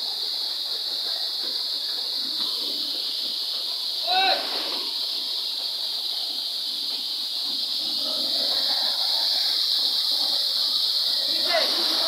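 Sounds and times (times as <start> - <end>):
waterfall pouring onto rock: 0.0 - 12.0.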